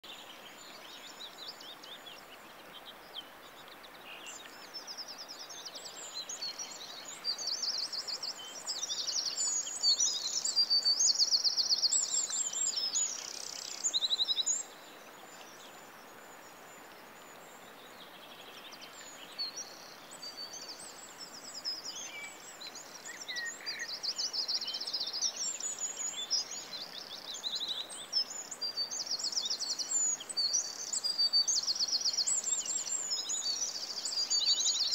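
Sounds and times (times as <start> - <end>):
songbirds chirping and trilling: 0.0 - 34.9
steady soft hiss: 0.1 - 34.9.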